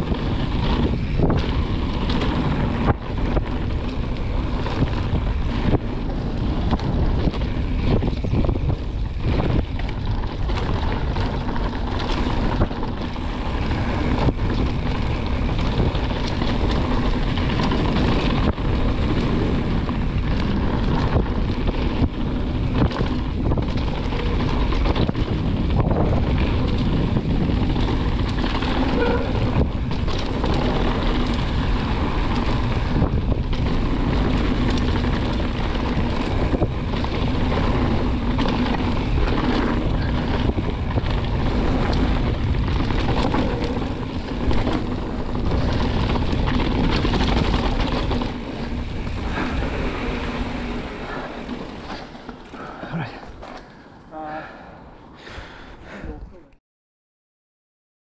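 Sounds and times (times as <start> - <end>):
wind buffeting microphone: 0.0 - 53.5
bike knocking and rattling: 0.0 - 53.9
tyres on loose gravel: 0.0 - 54.0.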